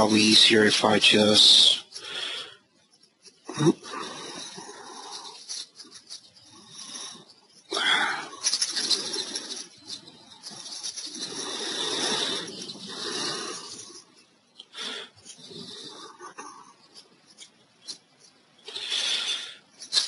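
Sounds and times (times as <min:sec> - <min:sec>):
soft rustle: 0:02.6 - 0:20.0.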